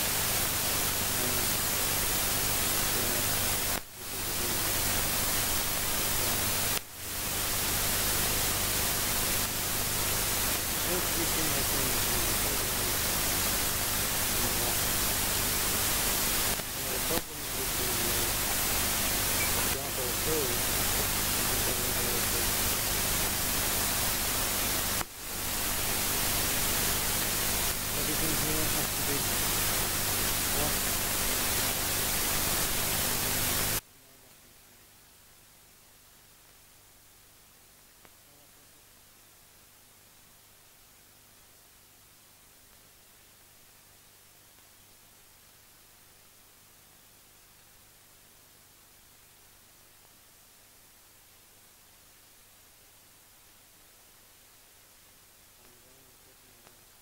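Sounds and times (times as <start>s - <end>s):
tape hiss and hum: 0.0s - 57.0s.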